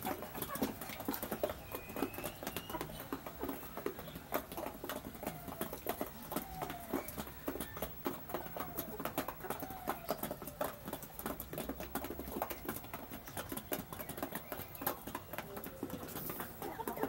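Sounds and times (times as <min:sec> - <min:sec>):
beaks pecking at feed: 0:00.0 - 0:17.0
chickens clucking softly: 0:00.0 - 0:17.0.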